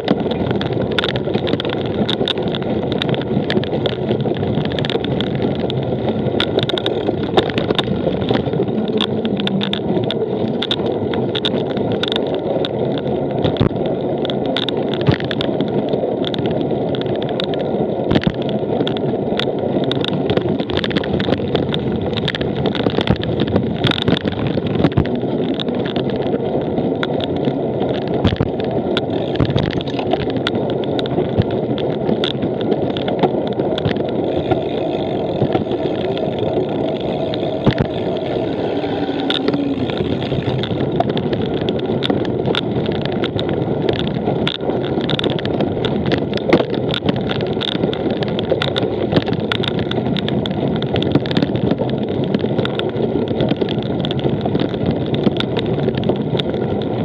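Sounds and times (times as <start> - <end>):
tyres rumbling: 0.0 - 15.8, 18.8 - 56.9
bike clicking and rattling: 0.0 - 57.0.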